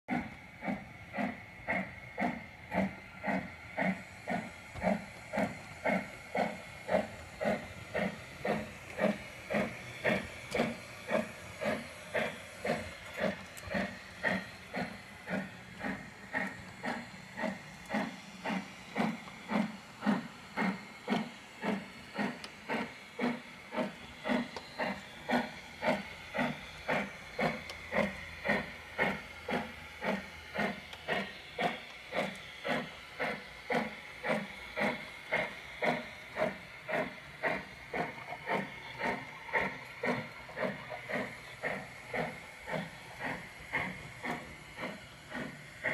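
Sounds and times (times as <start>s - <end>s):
model steam locomotive chuffing: 0.1s - 45.9s.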